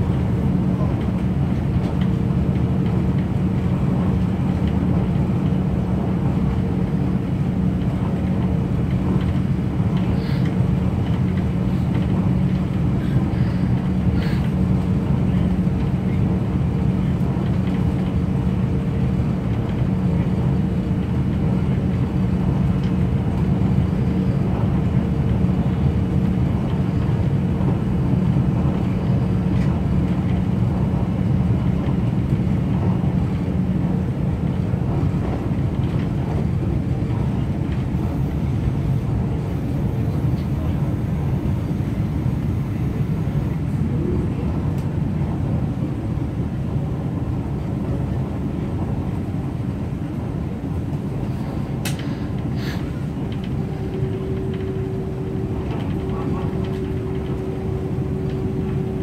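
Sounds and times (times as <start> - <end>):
train cabin drone and rumble: 0.0 - 59.0.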